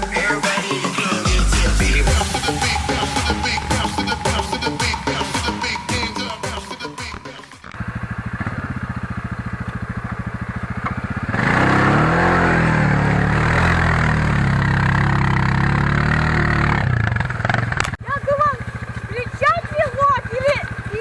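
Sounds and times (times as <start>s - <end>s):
quad bike engine revving: 0.0s - 21.0s.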